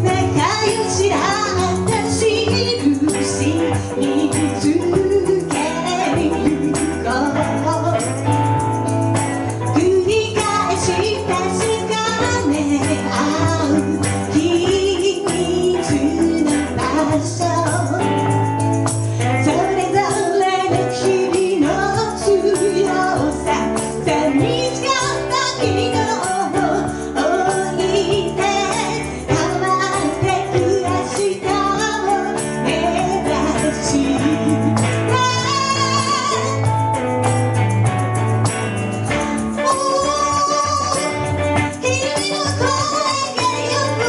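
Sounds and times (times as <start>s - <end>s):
person singing: 0.0s - 8.3s, 9.5s - 36.9s, 39.4s - 44.0s
instrumental backing with bass: 0.0s - 44.0s
light percussion: 0.0s - 44.0s.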